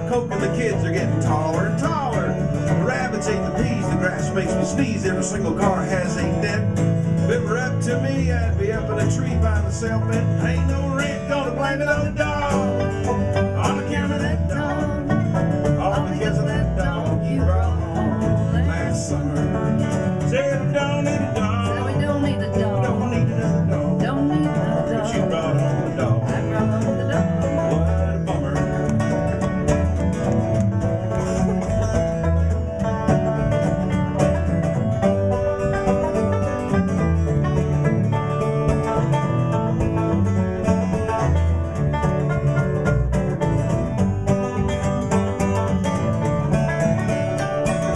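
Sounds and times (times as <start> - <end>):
bass: 0.0 - 47.9
picked banjo: 0.0 - 47.9
strummed acoustic guitar: 0.0 - 47.9.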